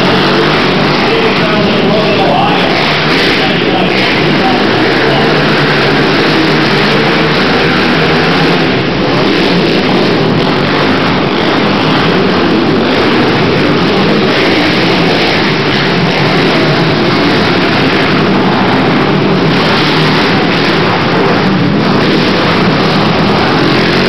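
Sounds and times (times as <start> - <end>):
quad engines revving: 0.0 - 24.0.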